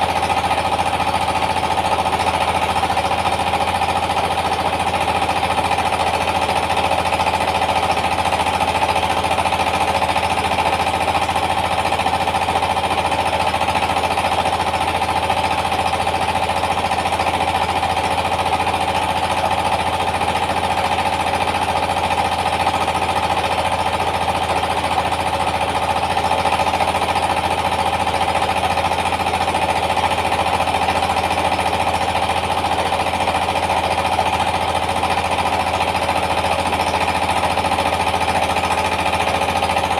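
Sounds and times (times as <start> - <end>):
diesel engine rapid knocking: 0.0 - 39.9.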